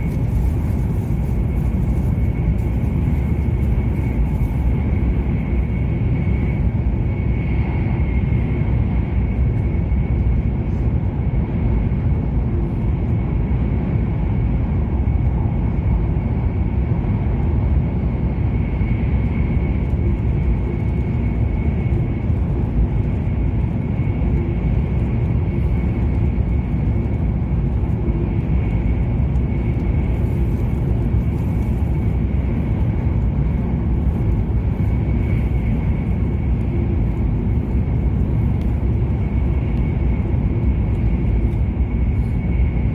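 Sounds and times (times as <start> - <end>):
train running gear rumble: 0.0 - 42.9.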